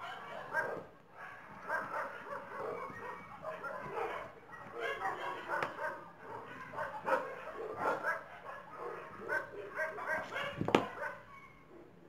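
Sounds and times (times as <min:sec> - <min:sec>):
dog barking in short yips: 0:00.0 - 0:11.5.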